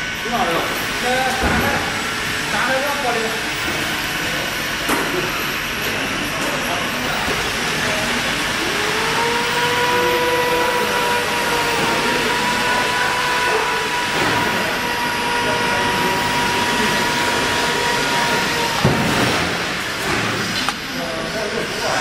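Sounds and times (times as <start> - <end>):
machinery rushing noise: 0.0 - 22.0
rising machine whine: 0.0 - 22.0.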